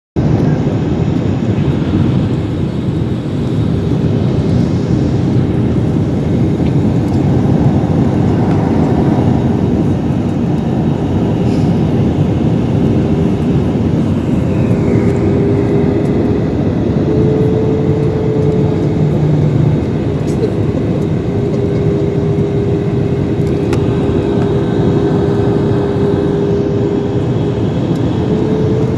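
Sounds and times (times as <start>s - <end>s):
airplane engines rumbling: 0.2s - 28.9s.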